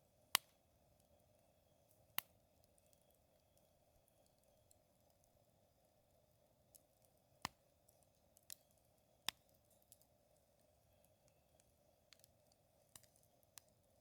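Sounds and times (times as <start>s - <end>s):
wood fire crackling: 0.3s - 14.0s.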